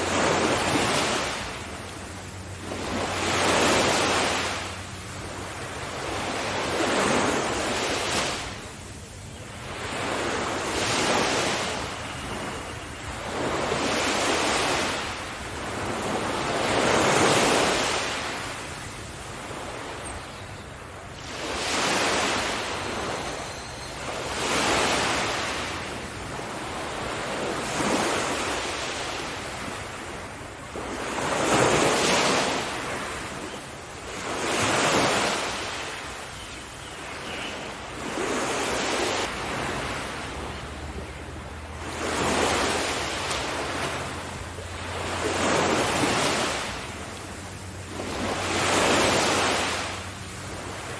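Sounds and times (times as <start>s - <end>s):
sea waves breaking on shore: 0.0s - 50.9s.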